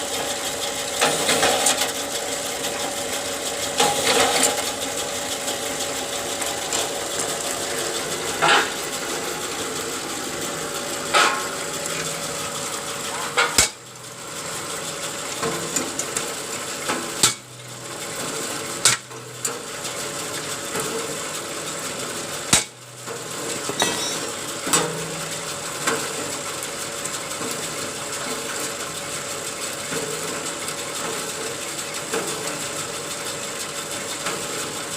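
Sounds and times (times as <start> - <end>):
motor hum: 0.0 - 34.9.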